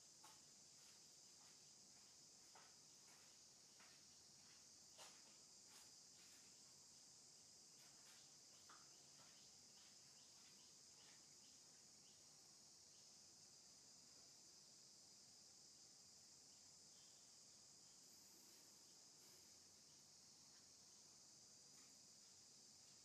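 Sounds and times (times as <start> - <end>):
insect chirring: 0.0 - 23.0.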